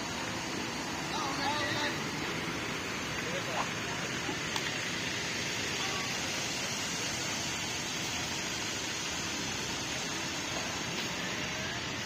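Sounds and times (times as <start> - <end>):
bus engines: 0.0 - 12.0
traffic hiss: 0.0 - 12.0.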